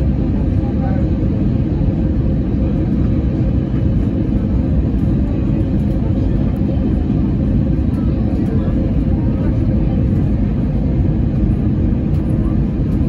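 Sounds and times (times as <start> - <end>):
engine and air rumble: 0.0 - 13.0.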